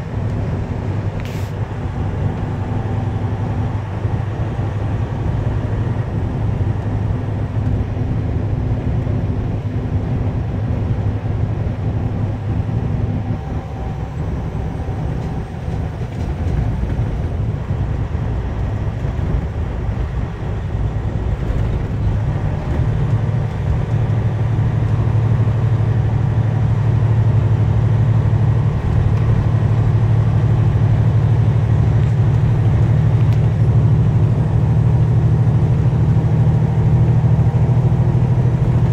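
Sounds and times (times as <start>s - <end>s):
truck engine drone inside cab: 0.0s - 38.9s.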